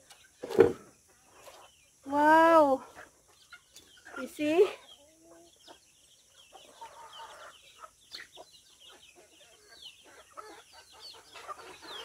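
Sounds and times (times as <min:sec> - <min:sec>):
chickens clucking faintly: 0:00.0 - 0:12.0.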